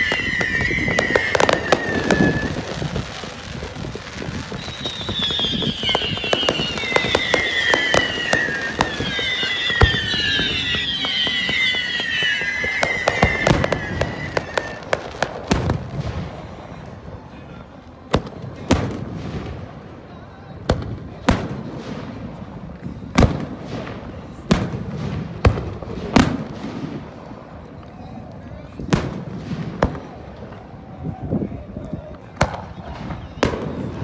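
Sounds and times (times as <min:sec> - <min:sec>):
whistling firework shells: 0:00.0 - 0:16.9, 0:20.6 - 0:34.0
booming firework bursts: 0:00.0 - 0:17.1, 0:18.1 - 0:28.0, 0:28.6 - 0:31.2, 0:32.3 - 0:34.0.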